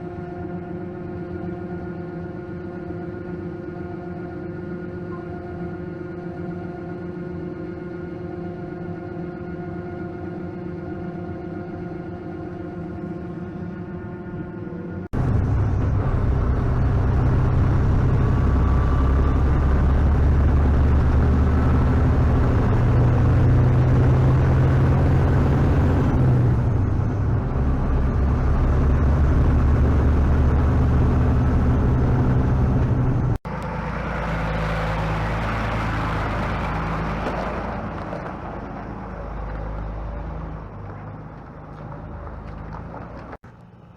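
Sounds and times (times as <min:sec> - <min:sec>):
ambient music: 0:00.0 - 0:37.2
diesel engine droning: 0:00.0 - 0:43.9.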